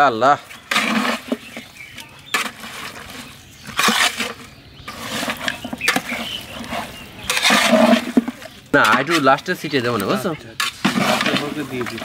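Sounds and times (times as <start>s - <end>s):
metal spatula scraping pot: 0.4s - 12.0s.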